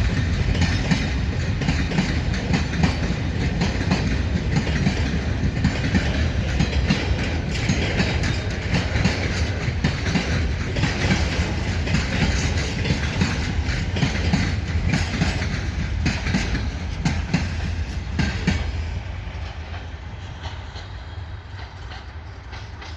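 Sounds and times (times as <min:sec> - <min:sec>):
train rumble: 0:00.0 - 0:22.9
train wheels clattering over rail joints: 0:00.0 - 0:22.9.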